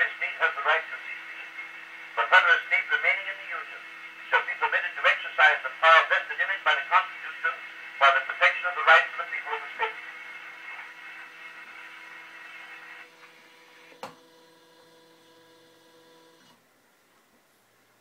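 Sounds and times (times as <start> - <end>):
faint hum: 0.0 - 18.0
record surface hiss: 0.0 - 18.0.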